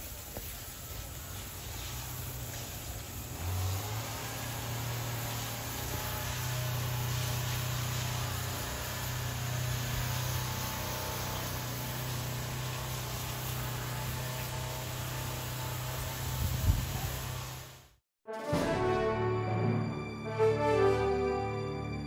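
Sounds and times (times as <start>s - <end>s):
faint hiss: 0.0s - 17.8s
low mechanical hum: 0.0s - 17.9s.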